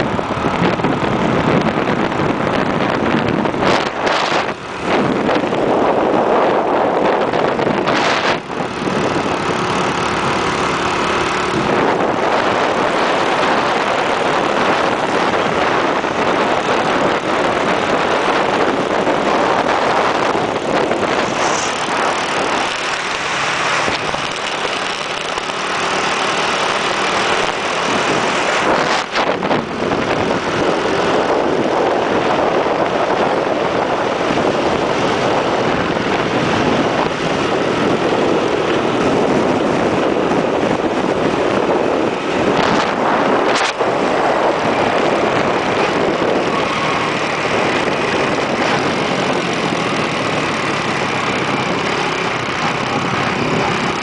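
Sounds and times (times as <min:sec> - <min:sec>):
scooter engine running: 0:00.0 - 0:54.0
wind rushing over microphone: 0:00.0 - 0:54.0.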